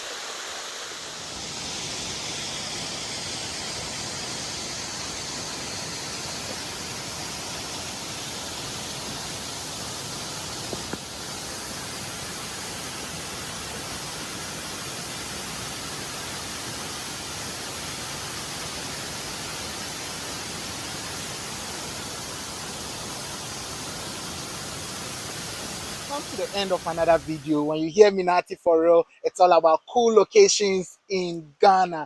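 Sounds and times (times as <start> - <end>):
waterfall: 0.0 - 27.8.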